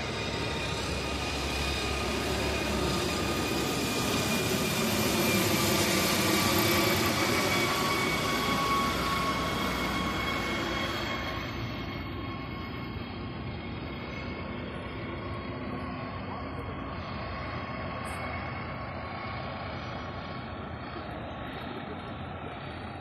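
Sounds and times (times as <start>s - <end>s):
helicopter rotor noise: 0.0s - 23.0s
turbine whine: 0.0s - 23.0s.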